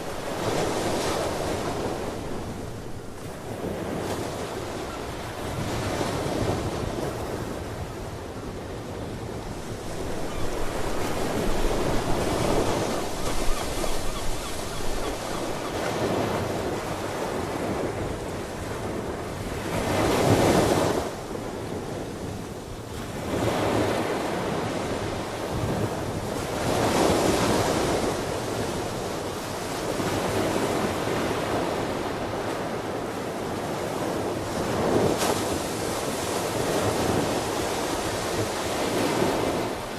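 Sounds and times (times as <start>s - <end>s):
ocean waves breaking: 0.0s - 8.0s, 9.3s - 21.2s, 23.1s - 39.9s.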